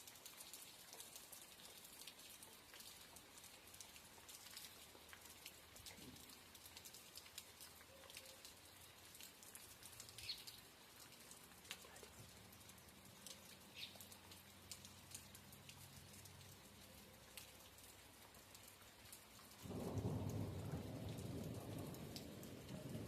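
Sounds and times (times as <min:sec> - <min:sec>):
light rain falling: 0:00.0 - 0:23.0.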